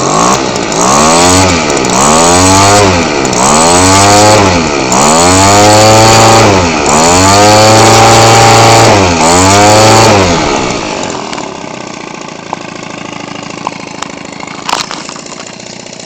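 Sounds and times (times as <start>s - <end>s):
two-stroke engine turning propeller: 0.0s - 16.0s.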